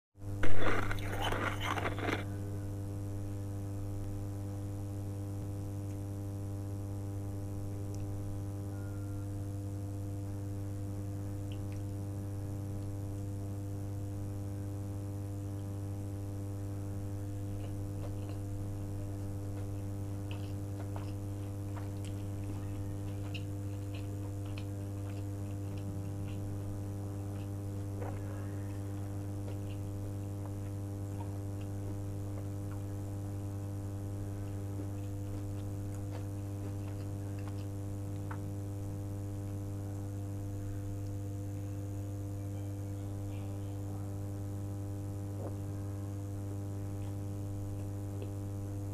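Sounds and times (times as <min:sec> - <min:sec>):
low hum with overtones: 0:00.2 - 0:48.9.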